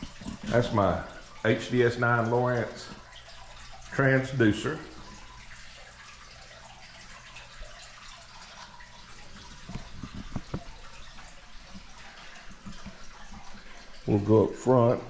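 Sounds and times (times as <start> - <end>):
rain hissing and dripping: 0.0 - 15.0.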